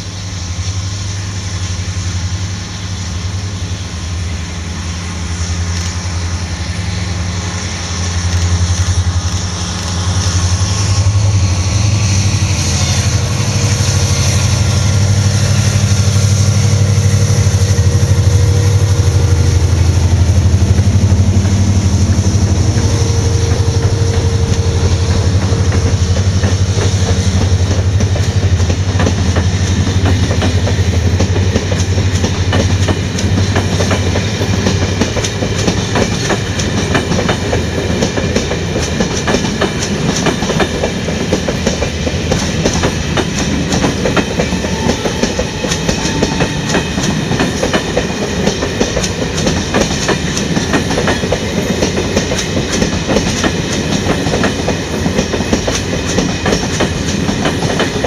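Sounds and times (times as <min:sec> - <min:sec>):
diesel locomotive engine drone: 0:00.0 - 0:58.0
train wheels clattering over rails: 0:05.4 - 0:58.0.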